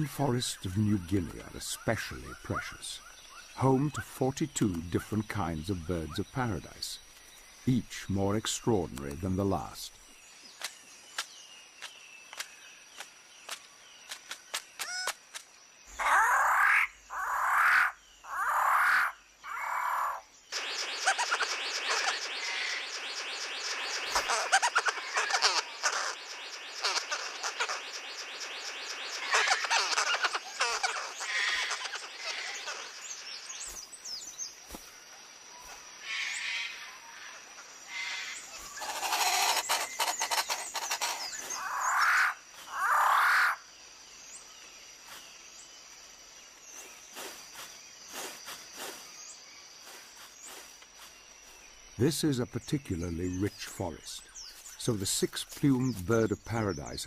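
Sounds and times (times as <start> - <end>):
birds chirping and calling: 0.0 - 57.0.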